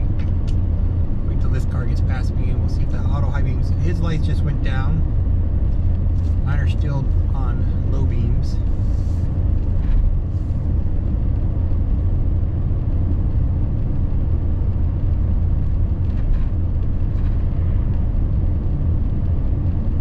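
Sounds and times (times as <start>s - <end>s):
road and engine noise in cab: 0.0s - 20.0s.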